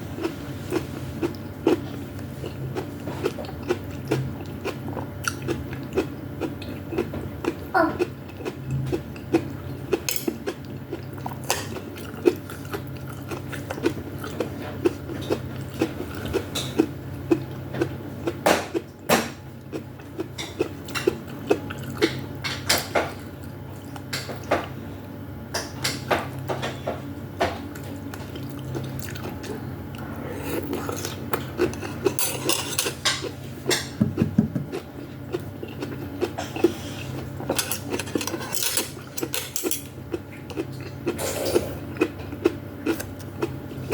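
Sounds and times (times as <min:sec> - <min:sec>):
wet eating sounds: 0:00.2 - 0:19.0, 0:19.6 - 0:24.3, 0:27.8 - 0:43.9.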